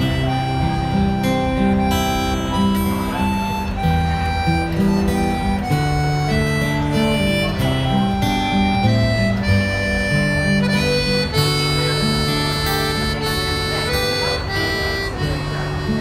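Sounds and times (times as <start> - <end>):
acoustic guitar: 0.0 - 16.0
reedy melody: 0.0 - 16.0.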